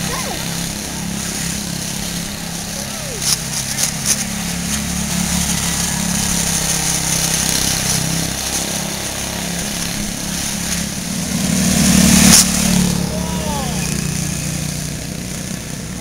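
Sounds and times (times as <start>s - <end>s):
small race car engine running: 0.0s - 16.0s.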